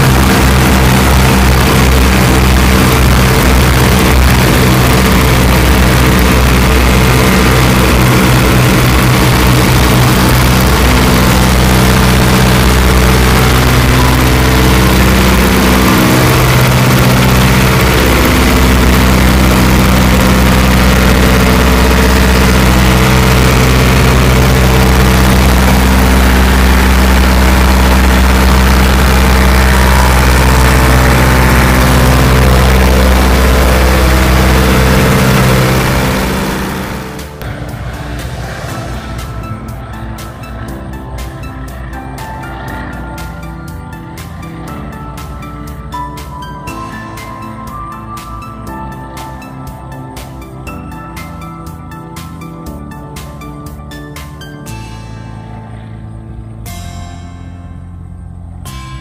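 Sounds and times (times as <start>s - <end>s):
propeller plane engines droning: 0.0s - 59.0s.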